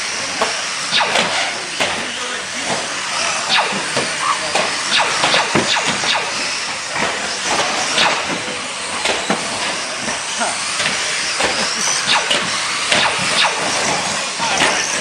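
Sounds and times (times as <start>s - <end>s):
high motor whines: 0.0s - 15.0s.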